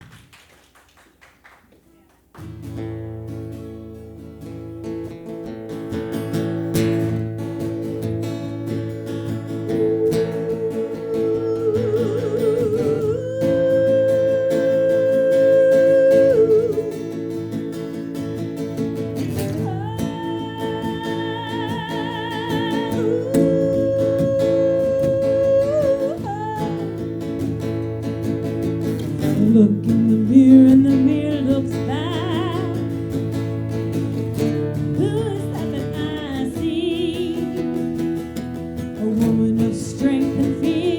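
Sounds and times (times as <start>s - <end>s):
acoustic guitar: 0.0s - 40.9s.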